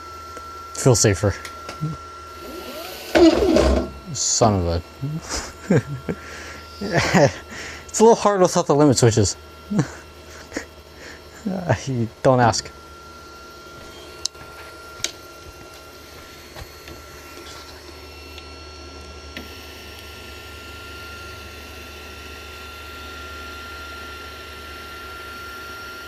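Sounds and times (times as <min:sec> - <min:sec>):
printer motor whine: 0:00.0 - 0:26.0.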